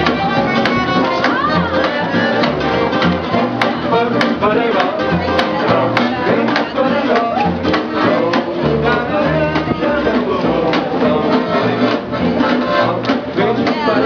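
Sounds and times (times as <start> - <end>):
acoustic swing band playing: 0.0 - 14.0
plucked guitar strumming: 0.0 - 14.0
walking bass line: 0.0 - 14.0.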